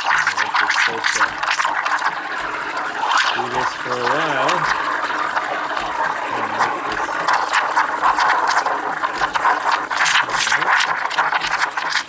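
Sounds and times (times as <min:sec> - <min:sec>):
steam wand frothing milk: 0:00.0 - 0:12.0.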